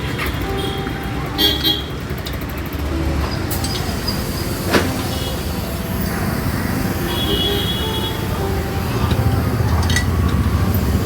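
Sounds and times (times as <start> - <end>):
passing motor traffic rumble: 0.0 - 11.0.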